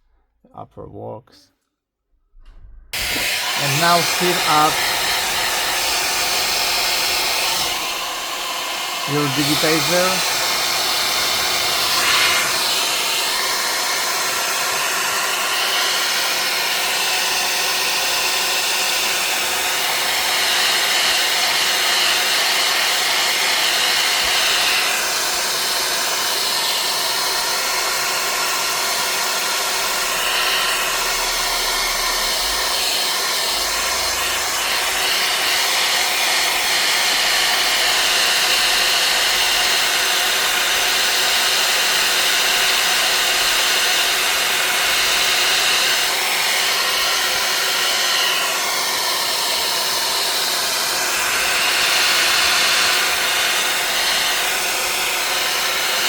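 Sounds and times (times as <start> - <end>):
hot-air gun blowing: 3.0 - 56.0.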